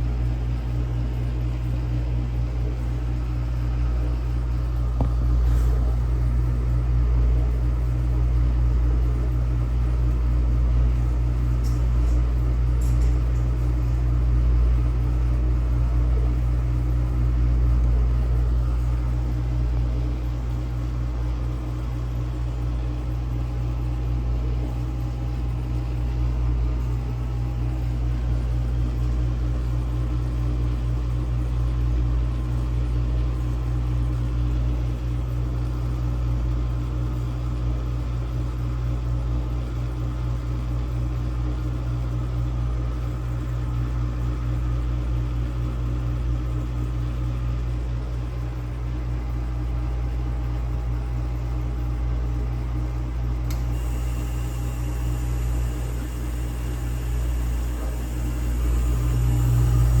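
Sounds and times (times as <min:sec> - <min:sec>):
dishwasher pump motor humming: 0:00.0 - 1:00.0.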